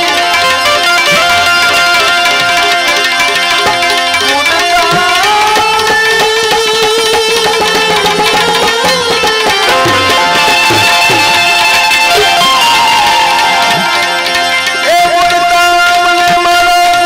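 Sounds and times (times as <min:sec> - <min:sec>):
plucked-string melody: 0:00.0 - 0:17.0
tabla beat: 0:00.0 - 0:17.0.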